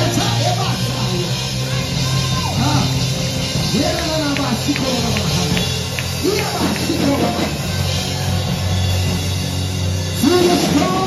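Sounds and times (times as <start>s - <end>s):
church band playing gospel: 0.0s - 11.0s.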